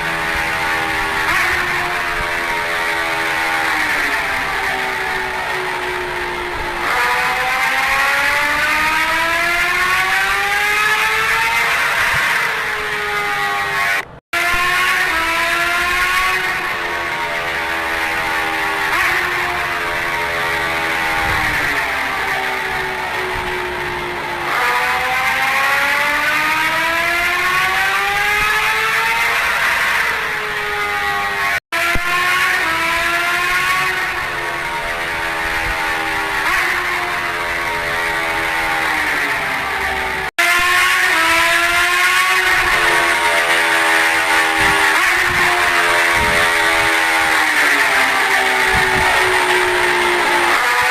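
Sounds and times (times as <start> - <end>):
motorcycle engine running: 0.0 - 50.9
wind: 0.0 - 50.9.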